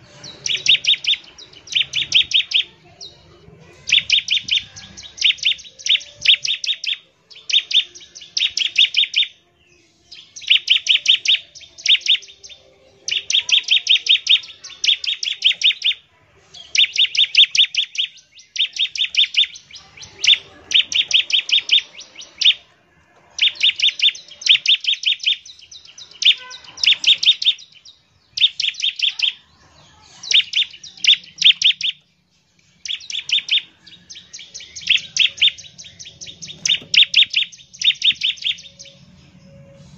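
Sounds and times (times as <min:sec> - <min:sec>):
bird singing sharp high notes: 0:00.0 - 0:22.7, 0:23.3 - 0:39.9.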